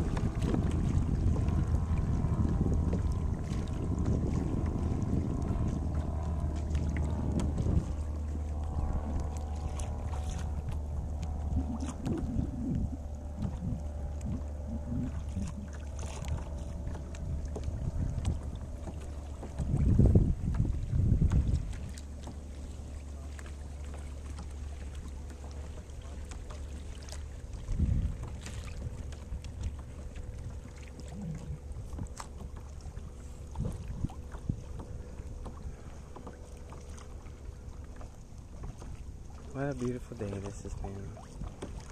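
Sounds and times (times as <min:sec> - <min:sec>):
wind buffeting microphone: 0:00.0 - 0:22.9, 0:27.2 - 0:41.9
faint steady drone: 0:00.0 - 0:41.9
paddle splashing in water: 0:00.0 - 0:41.9
steady low hum: 0:00.0 - 0:41.9.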